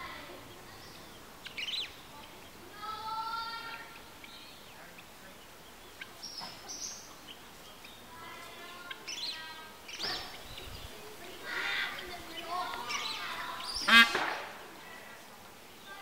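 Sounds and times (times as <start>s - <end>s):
birds chirping and calling: 0.0s - 16.0s.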